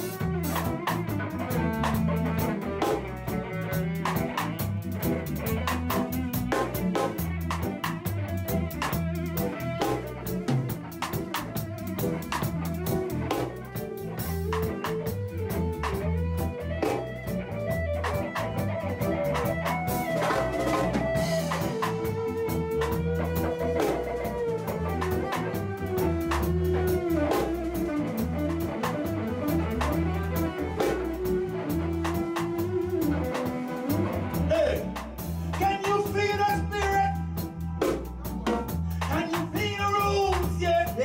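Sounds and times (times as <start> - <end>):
drum kit and bass beat: 0.0 - 41.0
lead guitar melody: 0.0 - 41.0.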